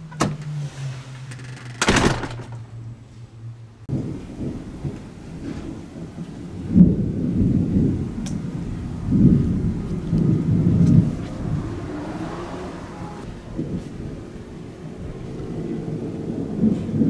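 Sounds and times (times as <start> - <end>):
thunder rumbling: 0.4 - 17.0.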